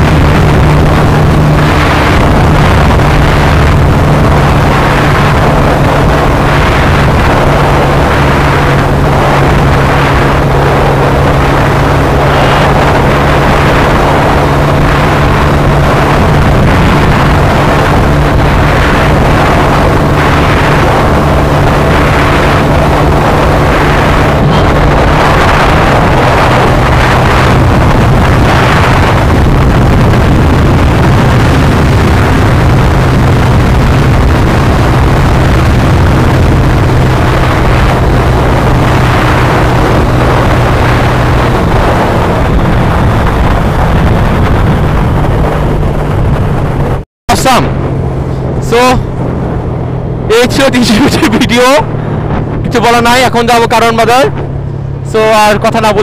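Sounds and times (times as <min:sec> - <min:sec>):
rushing wind and road noise: 0:00.0 - 0:56.0
vehicle engine running: 0:00.0 - 0:56.0.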